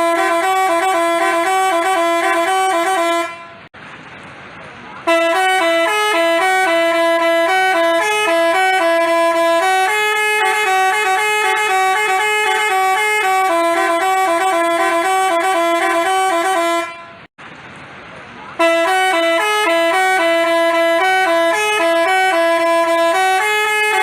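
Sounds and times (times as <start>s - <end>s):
musical bus horn playing tune: 0.0s - 3.7s, 5.0s - 17.3s, 18.6s - 24.0s.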